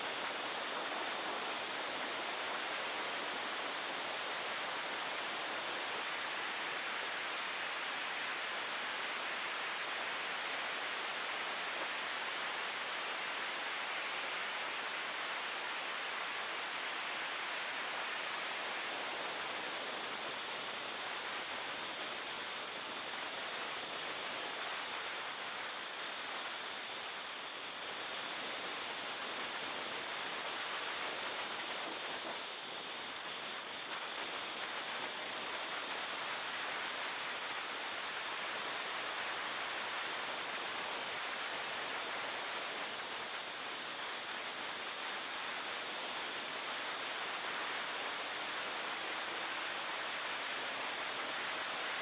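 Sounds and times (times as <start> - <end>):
wind and road rush in car: 0.0 - 52.0.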